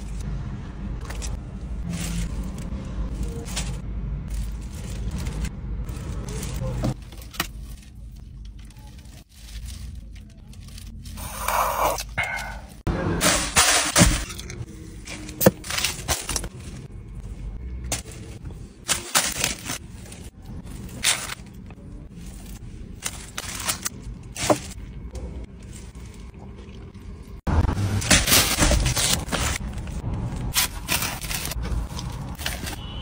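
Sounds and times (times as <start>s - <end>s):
plastic bag and wrappers crinkling: 1.0s - 11.5s, 14.3s - 27.4s, 28.1s - 33.0s.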